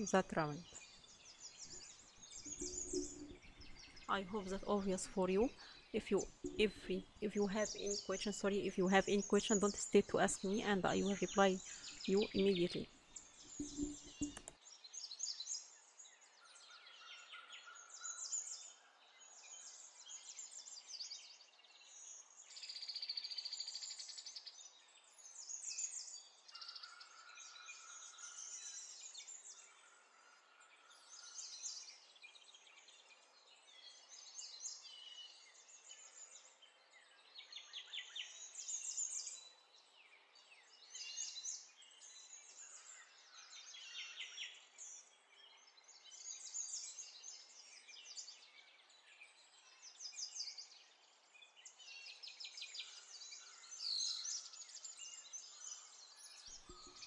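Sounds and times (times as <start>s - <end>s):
birds chirping and trilling: 0.0s - 57.0s.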